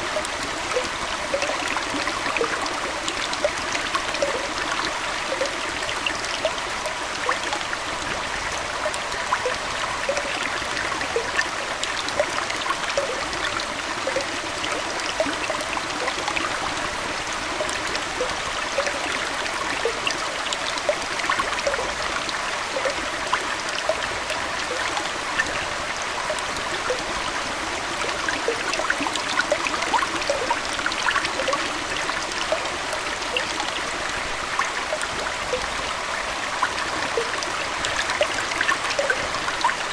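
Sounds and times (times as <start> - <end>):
aquarium water trickling: 0.0 - 39.9
water droplets: 0.2 - 7.7, 8.8 - 16.6, 17.6 - 25.6, 26.3 - 33.9, 34.6 - 39.9.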